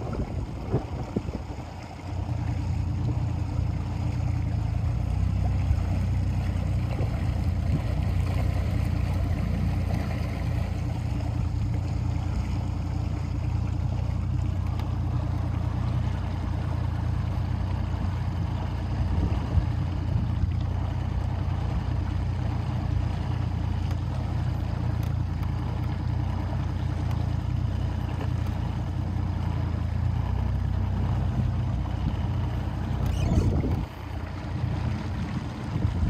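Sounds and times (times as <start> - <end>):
motorboat engine humming: 0.0 - 36.0
water rushing along hull: 0.0 - 36.0.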